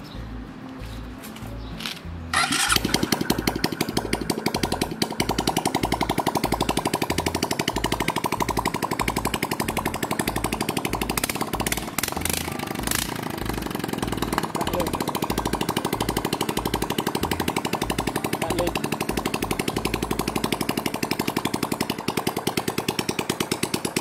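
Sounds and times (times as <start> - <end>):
motorcycle engine starting and idling: 0.8 - 24.0.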